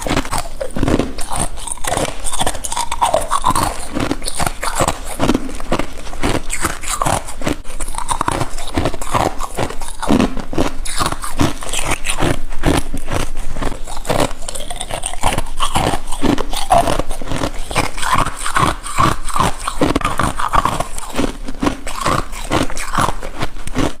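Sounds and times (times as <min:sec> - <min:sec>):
person chewing crunchy ice: 0:00.0 - 0:24.0.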